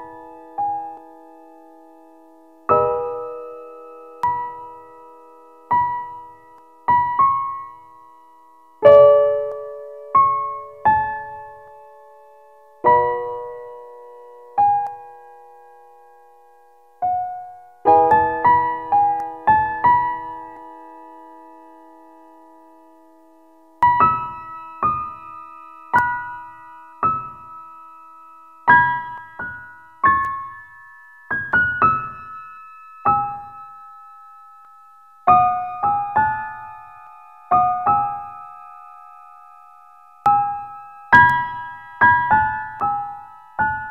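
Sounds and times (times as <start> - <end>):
held keyboard chord: 0.0 - 43.9
slow keyboard melody: 0.0 - 43.9.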